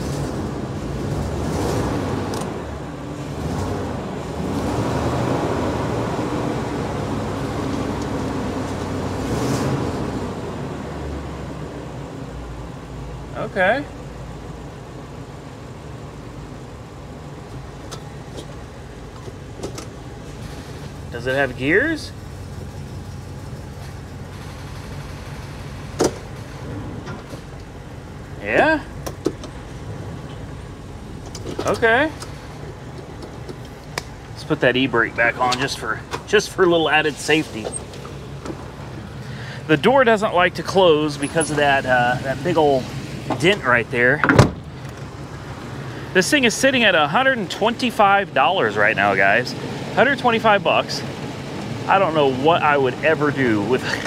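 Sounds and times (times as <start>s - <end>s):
truck engine revving: 0.0s - 12.4s, 19.4s - 54.0s.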